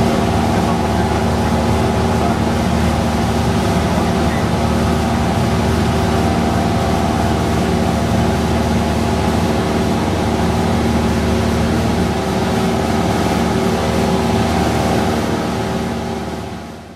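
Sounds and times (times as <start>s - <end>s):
aircraft engine and propeller droning: 0.0s - 16.9s.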